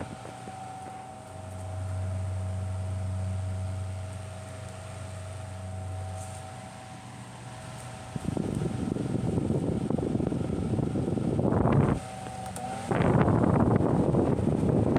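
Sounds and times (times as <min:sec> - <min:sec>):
electric fan motor humming: 0:00.0 - 0:14.9.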